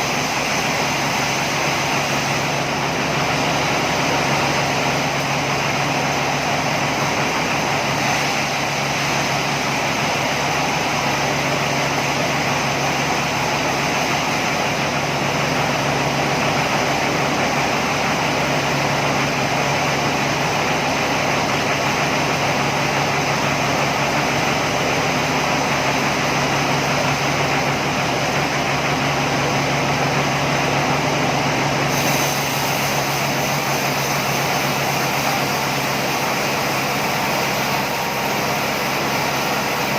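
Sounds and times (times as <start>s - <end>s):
sawmill machinery whirring: 0.0s - 39.9s.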